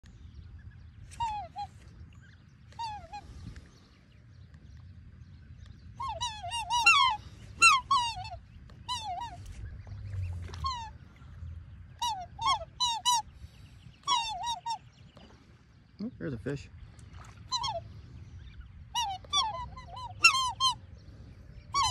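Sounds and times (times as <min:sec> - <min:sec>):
faint low rumble: 0:00.0 - 0:21.9
swans calling: 0:01.0 - 0:03.7, 0:05.8 - 0:15.6, 0:16.4 - 0:21.9.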